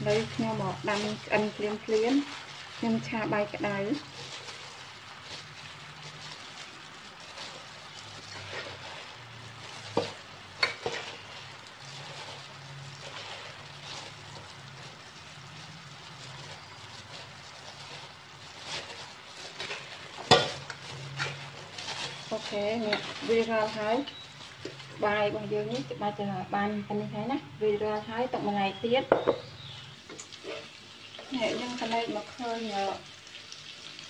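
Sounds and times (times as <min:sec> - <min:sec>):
plastic glove rustling in rice: 0:00.0 - 0:26.8, 0:27.7 - 0:34.0.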